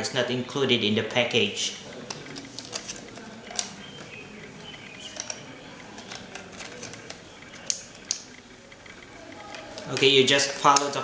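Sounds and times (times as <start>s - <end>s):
plastic casing clicks and handling: 1.9s - 11.0s.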